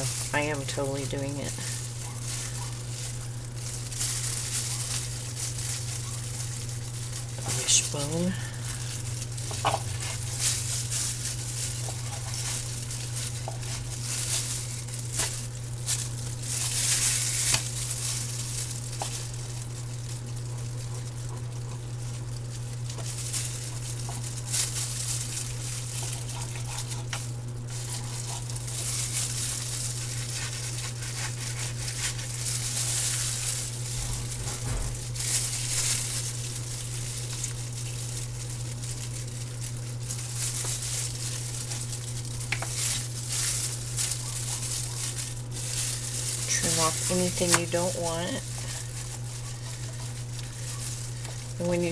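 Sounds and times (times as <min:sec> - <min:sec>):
plastic gloves crinkling: 0:00.0 - 0:51.9
steady low hum: 0:00.0 - 0:51.9.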